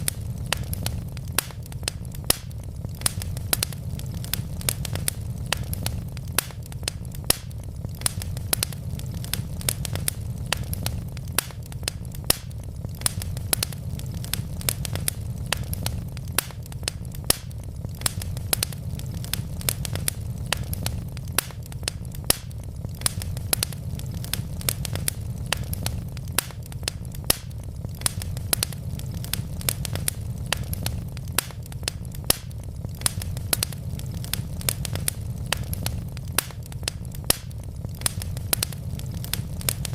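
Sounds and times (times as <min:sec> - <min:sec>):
wood logs crackling in fireplace: 0:00.0 - 0:39.9.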